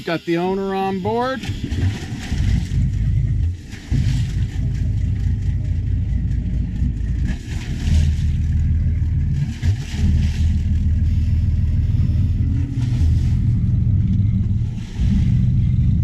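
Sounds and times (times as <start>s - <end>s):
diesel boat engines rumbling: 0.0s - 16.0s.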